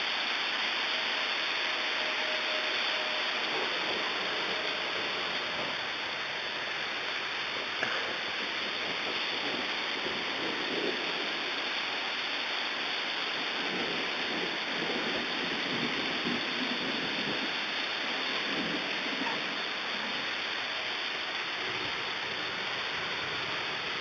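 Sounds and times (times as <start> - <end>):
heavy rain falling: 0.0 - 24.0
low rumble of thunder: 0.1 - 24.0.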